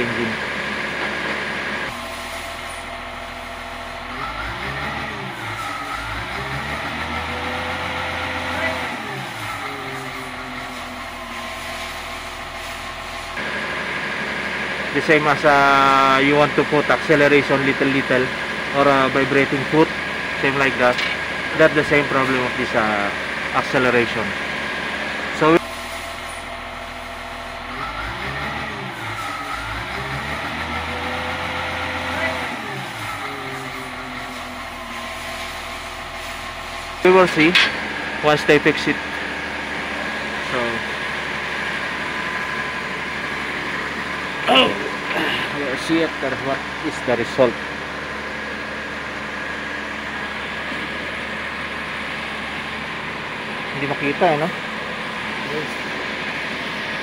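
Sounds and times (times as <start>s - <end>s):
diesel engine revs hunting: 0.0s - 57.0s.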